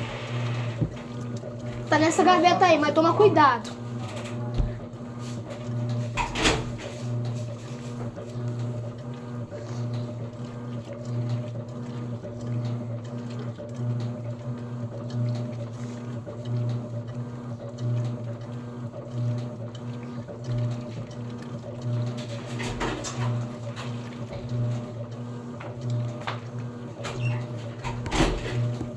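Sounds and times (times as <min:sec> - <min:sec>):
churning water: 0:00.0 - 0:28.9
washing machine motor hum: 0:00.0 - 0:28.9.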